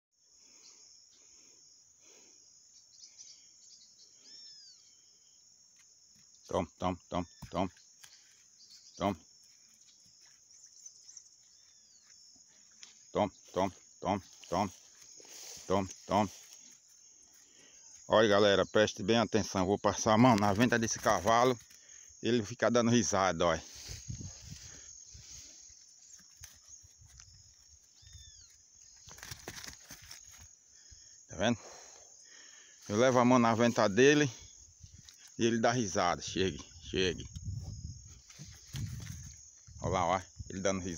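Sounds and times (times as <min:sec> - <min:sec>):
high-pitched insect chorus: 0:00.2 - 0:40.9.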